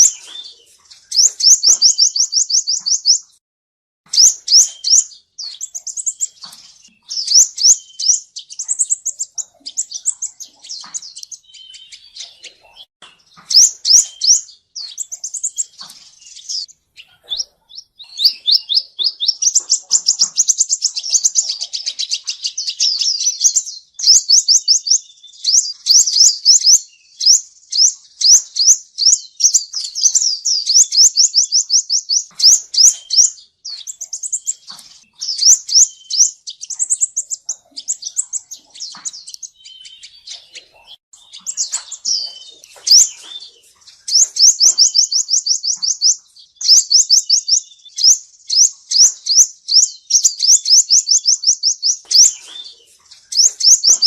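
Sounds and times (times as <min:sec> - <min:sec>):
bird singing high trills: 0:00.0 - 0:03.4, 0:04.1 - 0:54.0
bird twittering calls: 0:00.0 - 0:03.4, 0:04.1 - 0:54.0.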